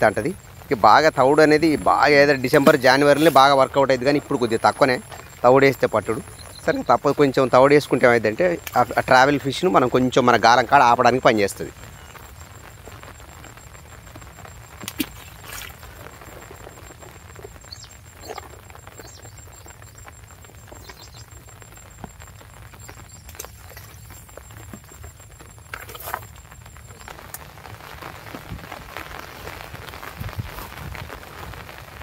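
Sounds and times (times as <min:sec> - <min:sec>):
light rain pattering: 0:00.0 - 0:32.0.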